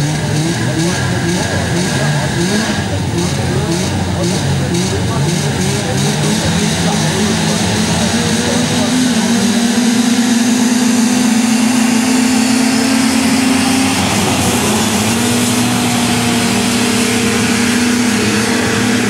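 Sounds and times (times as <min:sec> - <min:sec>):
atv engines revving high: 0:00.0 - 0:19.0.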